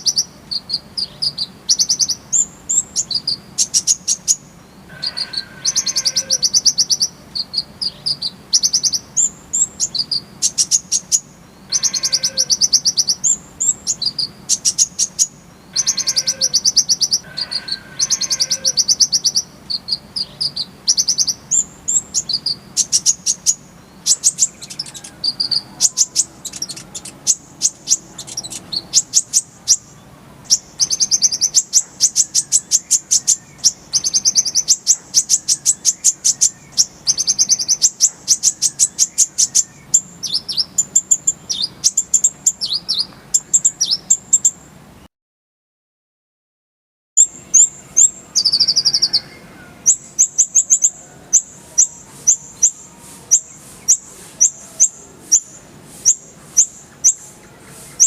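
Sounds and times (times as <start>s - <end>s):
bird singing high trills: 0.0s - 44.6s, 47.2s - 58.0s.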